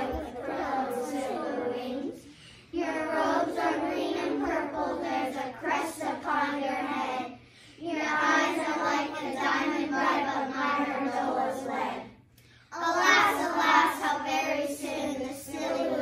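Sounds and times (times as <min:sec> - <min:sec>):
children chanting a poem in unison: 0:00.0 - 0:16.0.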